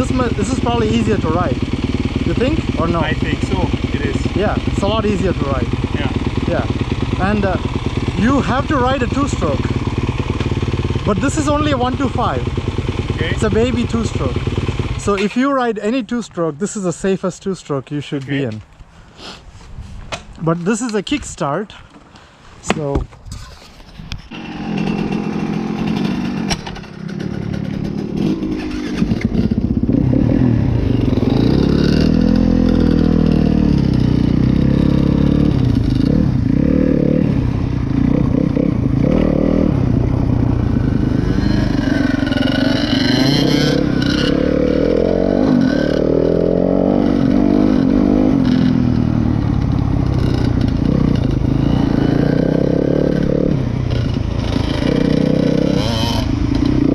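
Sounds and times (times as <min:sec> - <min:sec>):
dirt bike engine revving: 0:00.0 - 0:15.4, 0:24.3 - 0:56.9.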